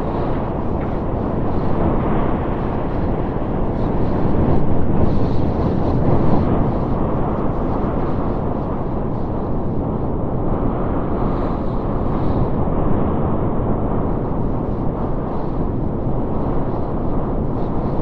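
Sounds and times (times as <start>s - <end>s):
storm wind rushing: 0.0s - 18.0s.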